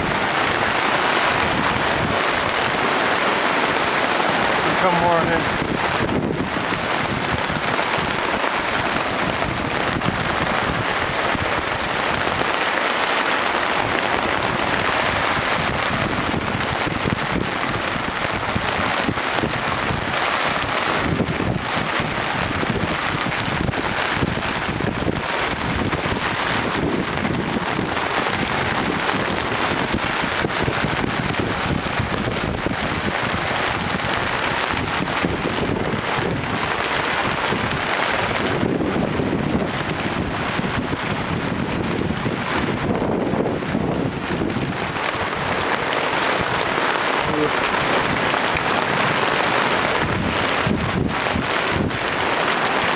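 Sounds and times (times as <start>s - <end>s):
heavy rain: 0.0s - 52.9s
wind: 0.0s - 52.9s.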